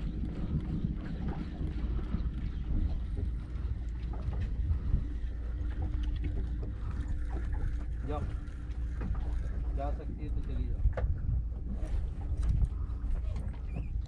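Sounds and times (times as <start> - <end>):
faint steady hum: 0.0 - 14.0
wind rumbling on microphone: 0.0 - 14.0.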